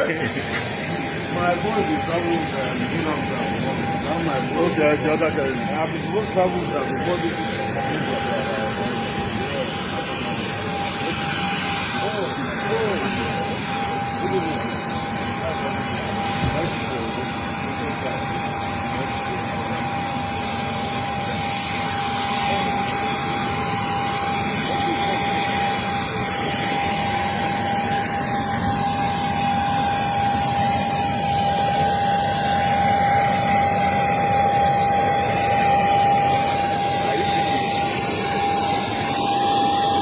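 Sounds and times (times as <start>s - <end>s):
jet engine noise in cabin: 0.0s - 40.0s.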